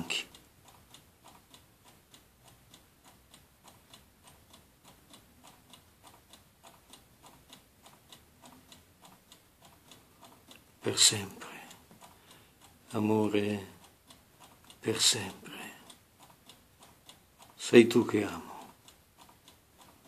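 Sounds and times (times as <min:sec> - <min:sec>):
faint steady ticking: 0:00.0 - 0:20.0.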